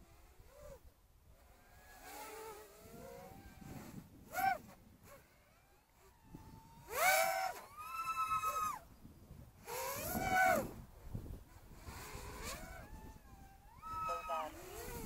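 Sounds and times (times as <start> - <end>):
electric motors whining: 0.0 - 8.9, 9.6 - 10.8, 11.4 - 15.0.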